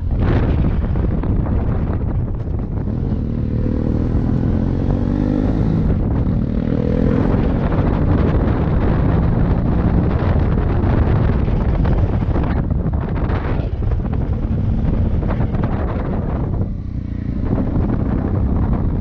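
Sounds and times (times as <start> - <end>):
motorcycle engine accelerating: 0.0 - 19.0
wind on microphone: 0.0 - 19.0.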